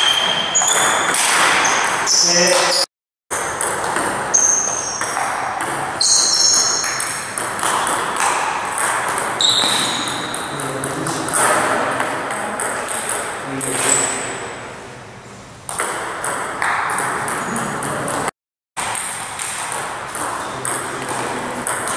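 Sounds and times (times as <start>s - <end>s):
table tennis ball hits: 0.0s - 14.5s, 15.6s - 21.9s.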